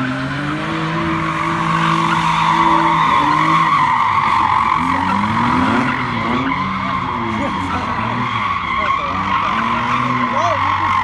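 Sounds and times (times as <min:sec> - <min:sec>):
car engine at high revs: 0:00.0 - 0:11.0
tyres spinning and screeching: 0:00.0 - 0:11.0.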